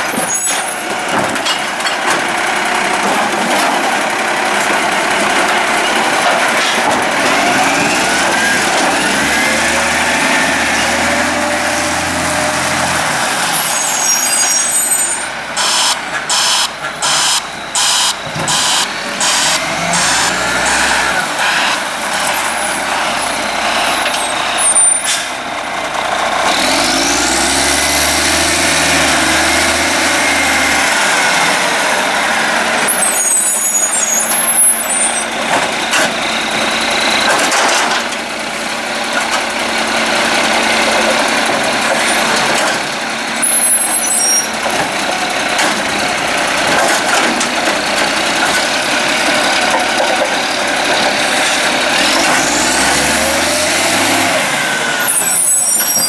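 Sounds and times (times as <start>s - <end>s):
diesel truck engine revving: 0.8s - 56.0s.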